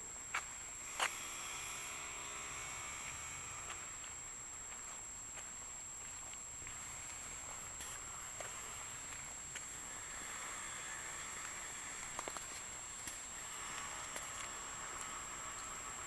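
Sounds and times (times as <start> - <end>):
faint outdoor background noise: 0.0 - 16.0
thin high whine: 0.6 - 5.3, 6.5 - 16.0.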